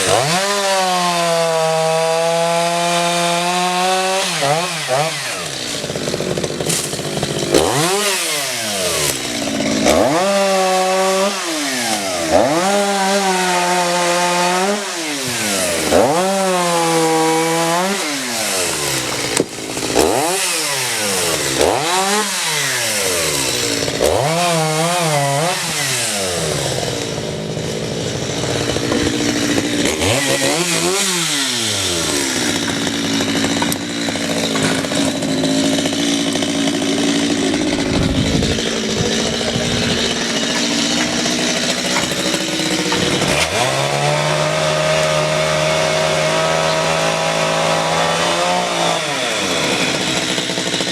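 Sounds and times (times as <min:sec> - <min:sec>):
chainsaw engine revving: 0:00.0 - 0:50.9.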